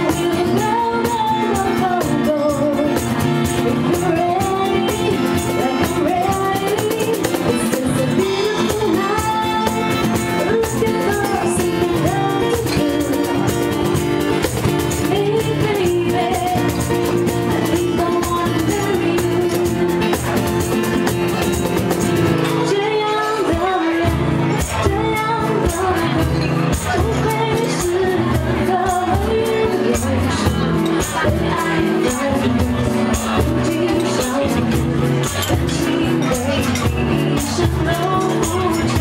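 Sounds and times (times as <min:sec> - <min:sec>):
hand percussion: 0:00.0 - 0:39.0
strummed acoustic guitar: 0:00.0 - 0:39.0
woman singing into a microphone: 0:00.0 - 0:39.0.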